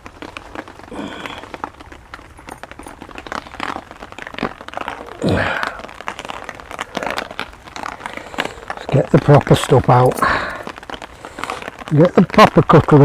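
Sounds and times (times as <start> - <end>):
rain pattering on a shelter: 0.0 - 13.0
rustling and crinkling of kit: 0.0 - 13.0.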